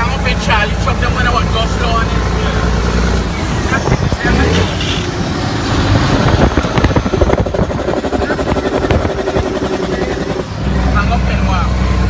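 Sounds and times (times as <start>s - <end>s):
diesel truck engine pulsing: 0.0s - 12.0s
steady engine tone: 0.0s - 12.0s.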